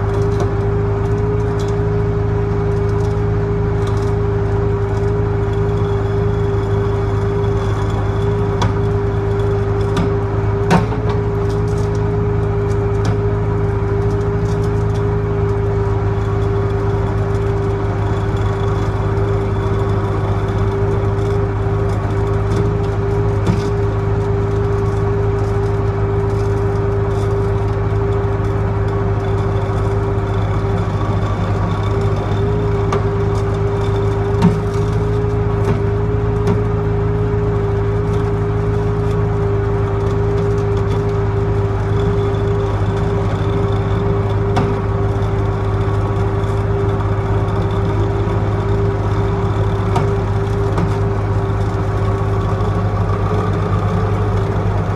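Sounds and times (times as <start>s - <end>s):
engine humming steadily: 0.0s - 54.9s.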